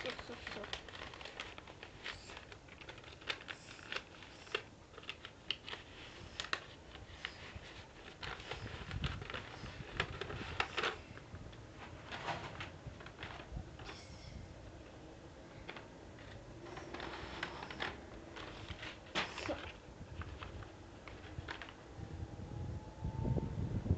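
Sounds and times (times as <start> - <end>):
paper crackling and rustling: 0.0 - 14.0, 15.5 - 21.9.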